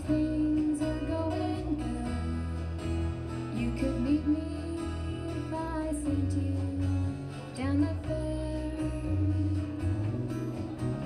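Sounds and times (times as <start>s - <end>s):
woman singing: 0.0s - 2.8s, 3.4s - 10.1s
drums: 0.0s - 11.0s
electric bass: 0.0s - 11.0s
strummed acoustic guitar: 0.0s - 11.0s.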